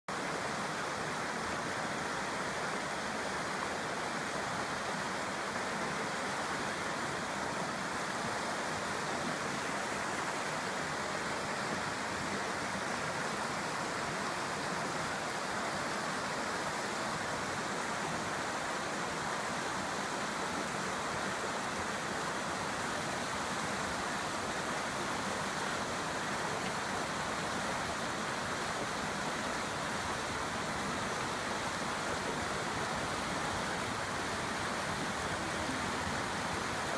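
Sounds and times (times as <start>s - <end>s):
river water rushing: 0.1s - 36.9s.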